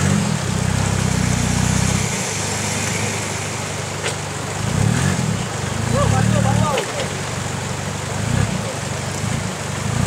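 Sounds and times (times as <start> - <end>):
truck engine running at low revs: 0.0 - 10.0
flowing water hissing: 0.4 - 10.0.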